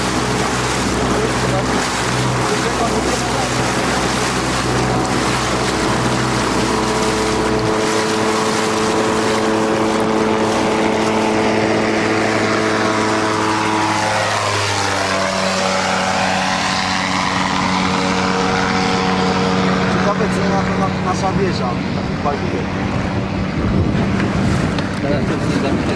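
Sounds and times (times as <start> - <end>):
gyroplane engine and propeller drone: 0.0 - 25.9
lower hum: 0.0 - 25.9.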